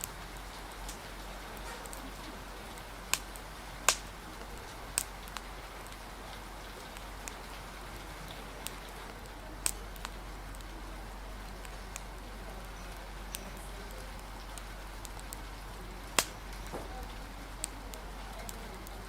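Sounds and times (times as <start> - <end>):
rain hissing: 0.0 - 19.0
wood fire crackling and popping: 0.0 - 19.0.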